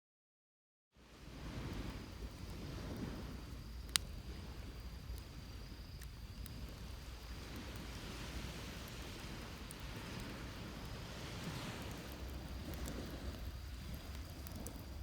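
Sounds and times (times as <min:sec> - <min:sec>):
surf rumble: 0:01.0 - 0:15.0
wind on microphone: 0:01.0 - 0:15.0
burning wood crackling: 0:01.3 - 0:15.0
high insect trill: 0:01.6 - 0:15.0.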